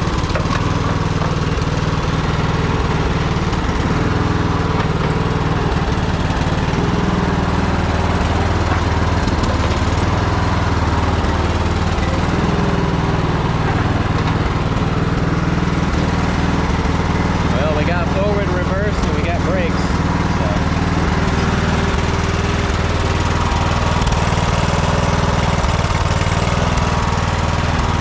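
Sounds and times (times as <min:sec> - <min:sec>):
tractor engine running steadily: 0:00.0 - 0:28.0.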